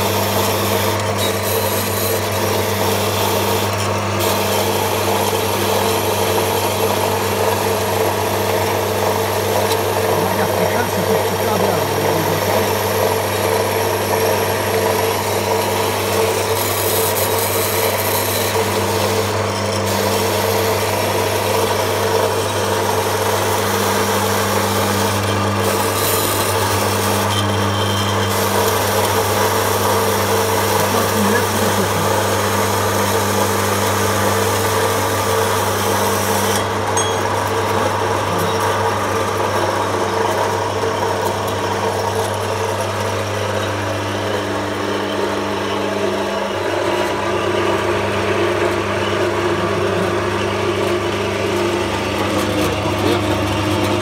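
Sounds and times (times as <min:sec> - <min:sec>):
band saw cutting steel: 0:00.0 - 0:54.0.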